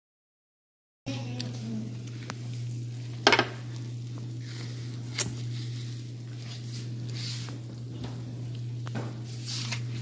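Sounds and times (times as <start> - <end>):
faint sizzling from sheet pan: 1.1 - 10.0
steady low hum: 1.1 - 10.0.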